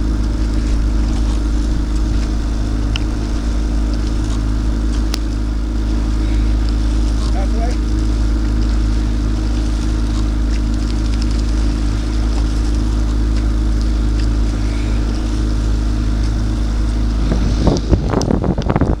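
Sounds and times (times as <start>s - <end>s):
outboard motor humming: 0.0s - 19.0s.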